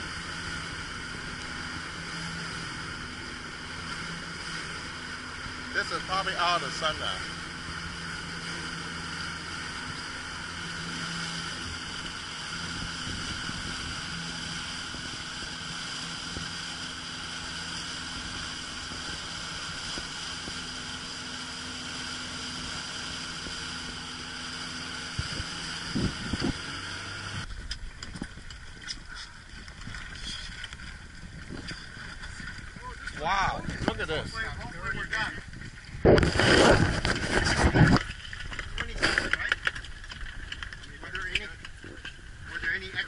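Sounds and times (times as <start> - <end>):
rushing water: 0.0 - 41.0
boat motor running: 0.0 - 43.0
wind: 0.0 - 43.0.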